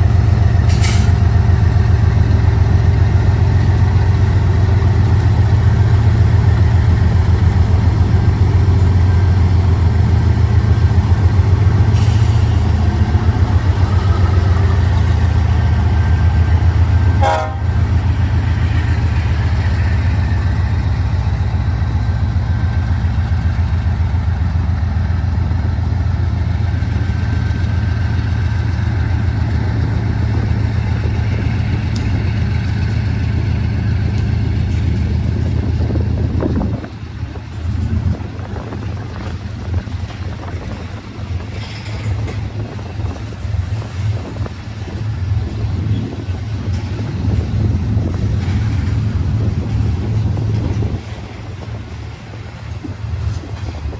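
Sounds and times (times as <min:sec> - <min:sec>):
diesel locomotive engine drone: 0:00.0 - 0:53.9.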